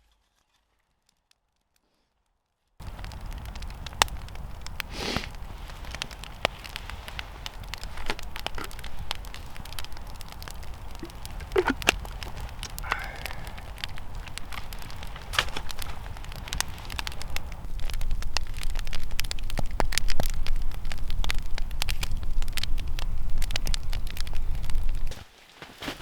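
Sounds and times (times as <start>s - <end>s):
wood fire crackling and popping: 1.1s - 26.0s.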